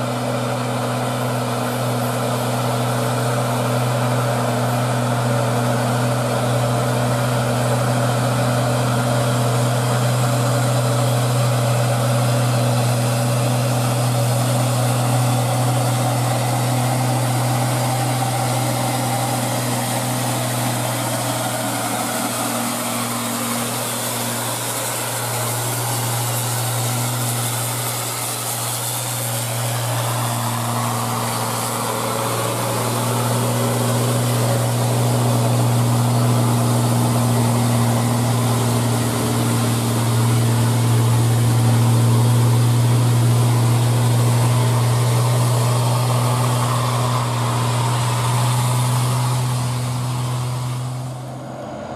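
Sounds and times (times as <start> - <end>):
truck diesel engine labouring: 0.0 - 51.9.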